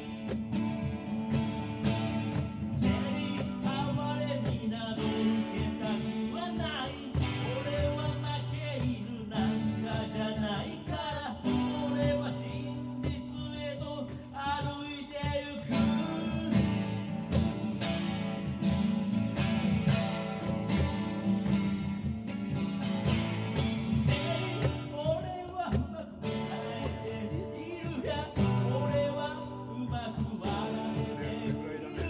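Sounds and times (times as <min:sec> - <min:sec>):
acoustic guitar: 0:00.0 - 0:32.0
cajon beats: 0:00.0 - 0:32.0
man singing: 0:00.0 - 0:32.0.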